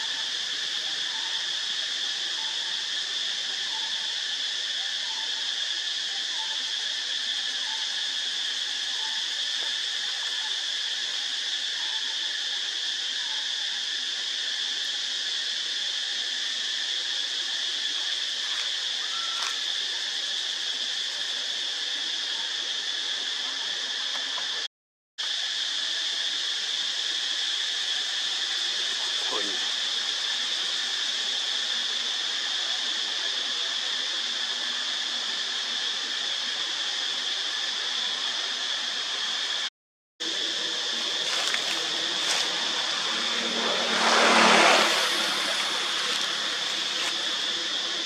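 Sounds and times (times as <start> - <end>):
insect chorus drone: 0.0 - 48.0.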